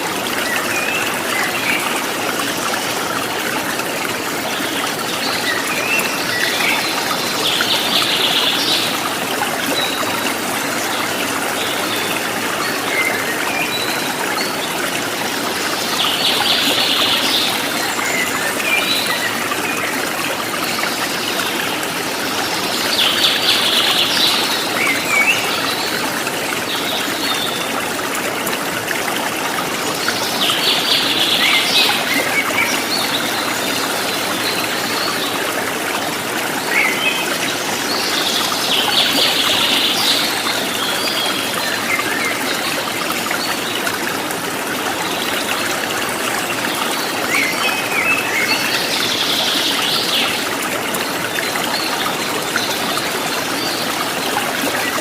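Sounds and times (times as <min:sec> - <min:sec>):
trickling stream: 0:00.0 - 0:55.0.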